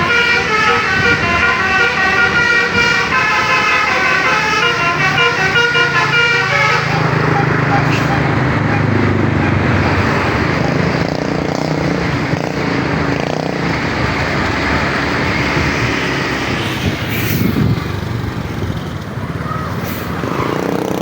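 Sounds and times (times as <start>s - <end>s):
engine drone: 0.0s - 21.0s
road traffic noise: 0.0s - 21.0s.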